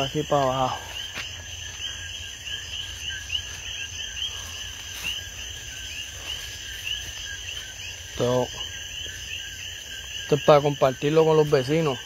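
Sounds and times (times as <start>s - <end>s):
frogs chirping: 0.0s - 12.0s
high insect trill: 0.0s - 12.0s.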